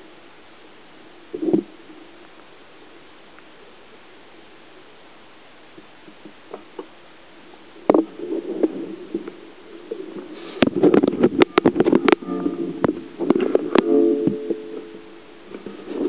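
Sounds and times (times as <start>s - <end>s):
faint steady hiss: 0.0s - 16.0s
water sloshing and bubbling underwater: 1.2s - 16.0s.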